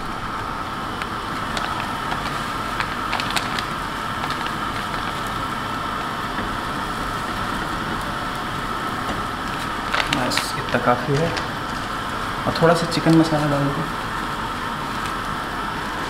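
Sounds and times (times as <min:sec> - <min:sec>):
onions frying in butter: 0:00.0 - 0:16.0.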